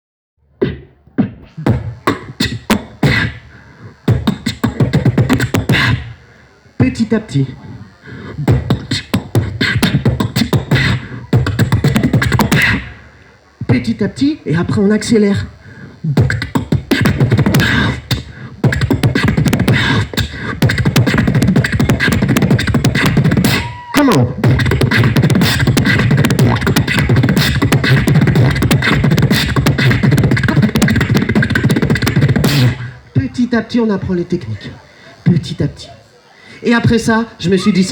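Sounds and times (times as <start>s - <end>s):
beatboxing drum sounds: 0.6s - 6.2s, 6.8s - 13.0s, 13.6s - 35.8s, 36.6s - 37.9s.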